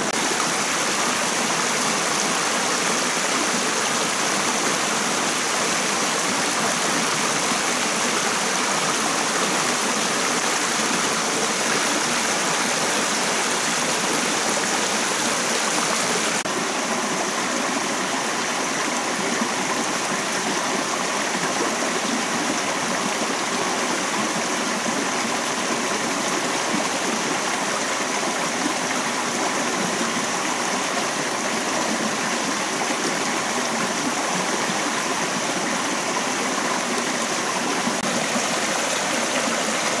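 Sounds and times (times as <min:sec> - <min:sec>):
stream running over stones: 0:00.0 - 0:40.0.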